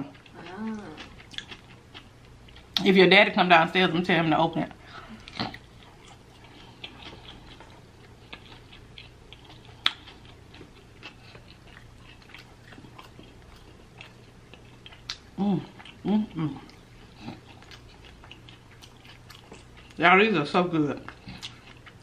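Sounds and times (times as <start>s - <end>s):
crunchy taco being chewed: 0.0s - 2.9s, 5.2s - 20.0s, 21.0s - 22.0s.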